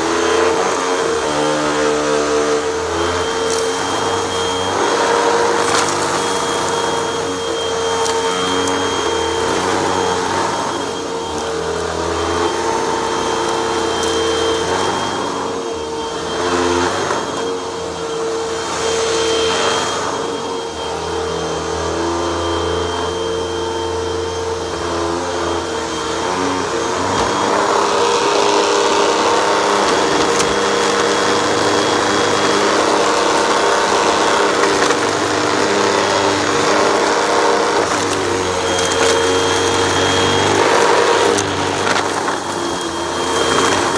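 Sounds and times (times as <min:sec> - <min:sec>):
vacuum cleaner motor hum and whine: 0:00.0 - 0:43.9.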